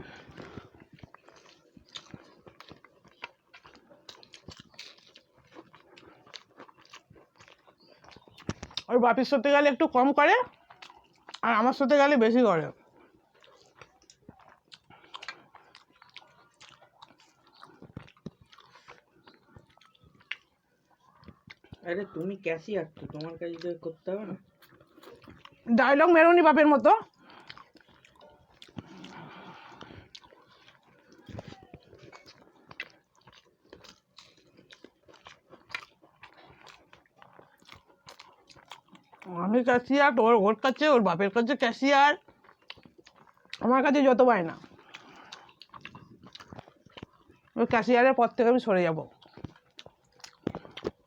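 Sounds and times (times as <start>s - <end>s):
people chewing food: 0.0s - 51.0s.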